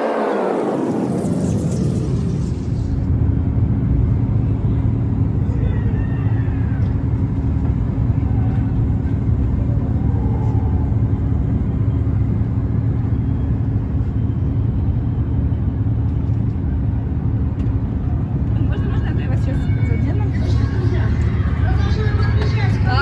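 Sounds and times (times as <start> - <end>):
boat engine drone: 0.0 - 23.0.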